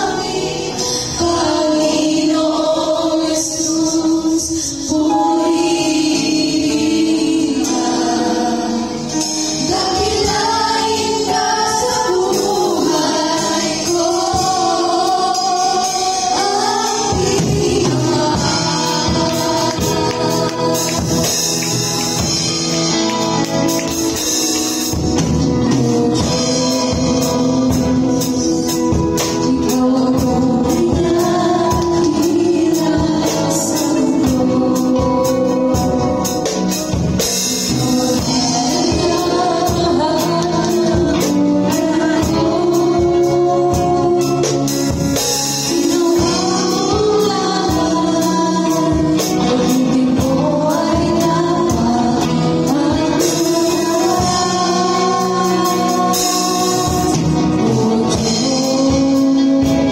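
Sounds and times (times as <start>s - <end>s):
women singing into microphones: 0.0s - 22.3s, 25.4s - 59.9s
acoustic guitar: 0.0s - 59.9s
drum kit with cymbals: 0.0s - 59.9s
electric bass: 6.2s - 59.9s.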